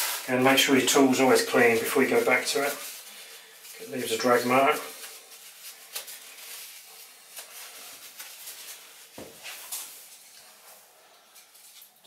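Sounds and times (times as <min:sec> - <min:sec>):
tissue rustling: 0:00.0 - 0:11.9.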